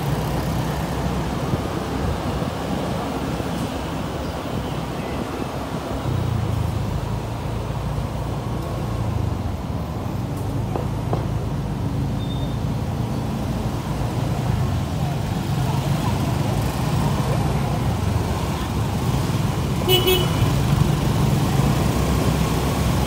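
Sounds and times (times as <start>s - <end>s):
scooter and car traffic noise: 0.0s - 23.0s.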